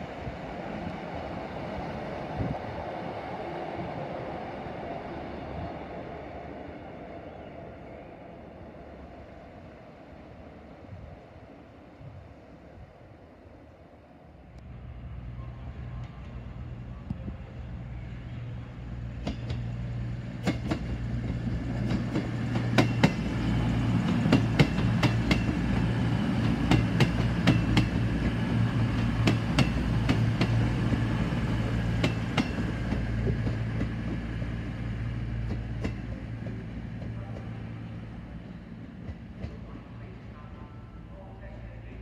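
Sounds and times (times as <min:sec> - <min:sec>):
diesel train engine hum: 0:00.0 - 0:42.0.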